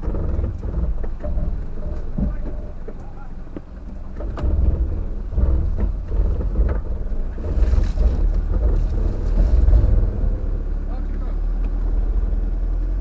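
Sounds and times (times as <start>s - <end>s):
knocks and rattles from bumps: 0.0s - 13.0s
vehicle engine rumbling: 0.0s - 13.0s.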